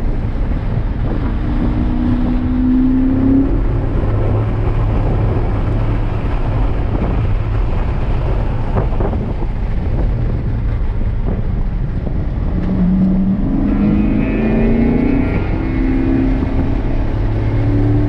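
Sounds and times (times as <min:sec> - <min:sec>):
car engine droning: 0:00.0 - 0:18.0
road and wind noise: 0:00.0 - 0:18.0.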